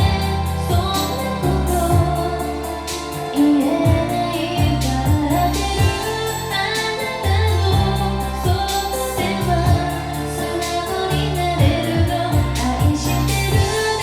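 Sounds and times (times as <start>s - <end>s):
karaoke backing track with bass: 0.0s - 14.0s
woman singing pop ballad: 0.0s - 14.0s.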